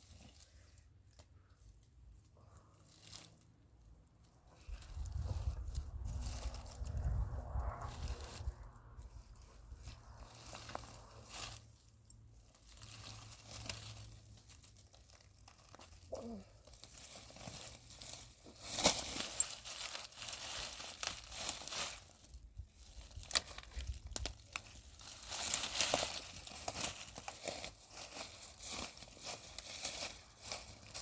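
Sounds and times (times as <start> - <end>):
crinkling and rustling: 0.0 - 31.0.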